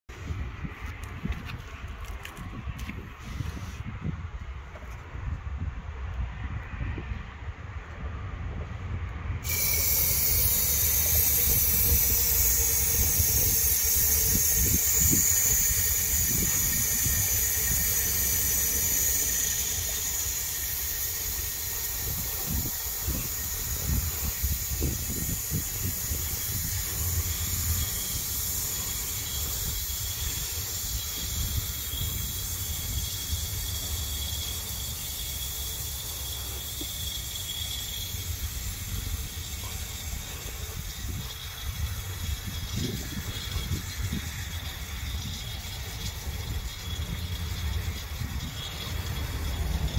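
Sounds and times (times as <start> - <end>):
aerosol spray hissing: 9.4 - 49.9.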